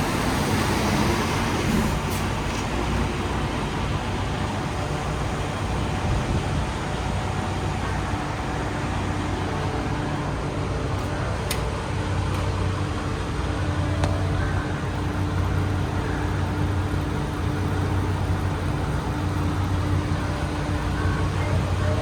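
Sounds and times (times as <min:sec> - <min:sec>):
diesel truck engine humming: 0:00.0 - 0:22.0.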